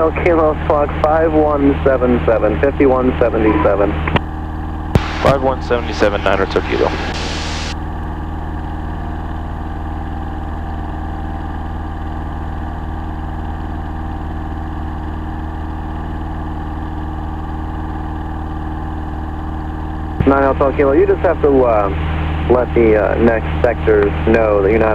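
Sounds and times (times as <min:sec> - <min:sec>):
propeller plane engine droning: 0:00.0 - 0:24.9.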